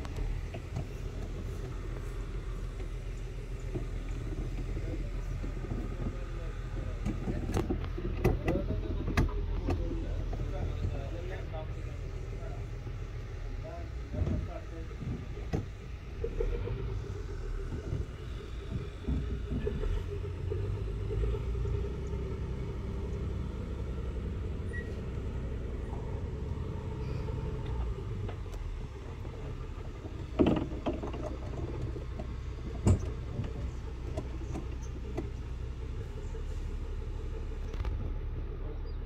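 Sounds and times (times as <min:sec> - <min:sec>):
boat engine rumbling: 0:00.0 - 0:39.0.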